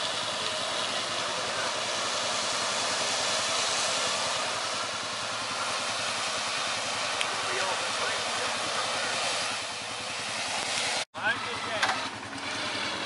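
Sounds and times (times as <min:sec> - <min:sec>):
hiss of machinery: 0:00.0 - 0:11.0
engine running: 0:00.0 - 0:13.0.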